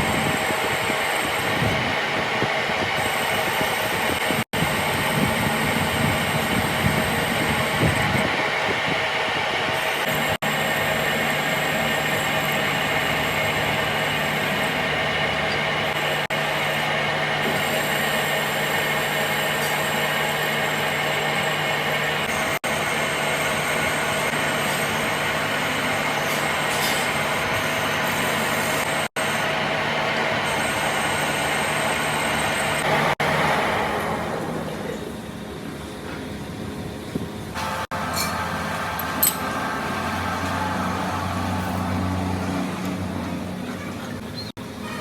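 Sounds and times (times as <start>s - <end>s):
metalworking machine running: 0.0s - 45.0s.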